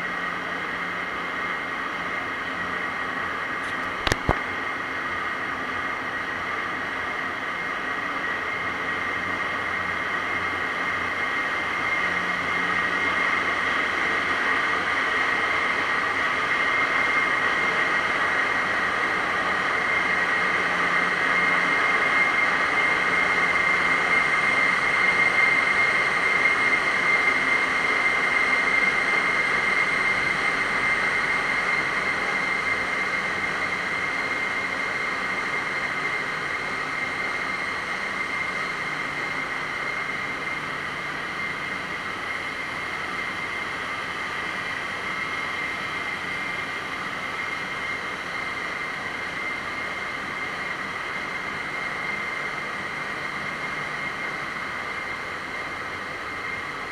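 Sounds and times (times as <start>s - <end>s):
high steady whine: 0.0s - 56.9s.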